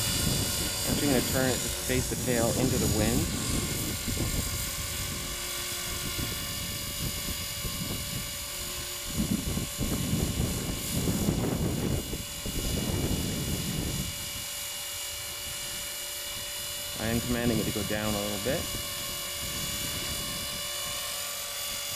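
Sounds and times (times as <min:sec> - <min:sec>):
model helicopter rotor whine: 0:00.0 - 0:21.9
wind rumble on microphone: 0:00.0 - 0:21.9.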